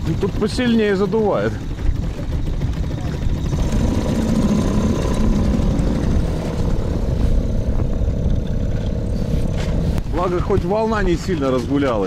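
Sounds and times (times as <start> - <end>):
outboard motor running: 0.0 - 12.0
wind buffeting microphone: 0.0 - 12.0.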